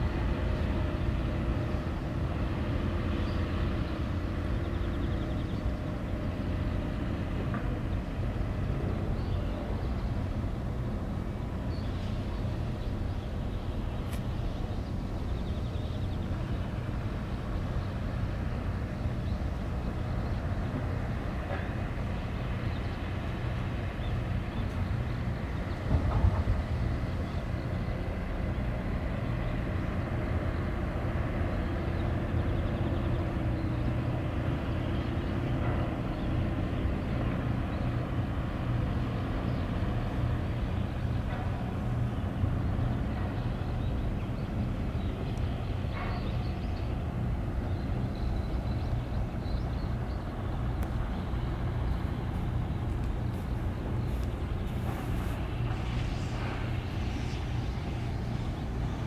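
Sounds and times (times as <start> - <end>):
low outdoor rumble by sea: 0.0 - 59.0.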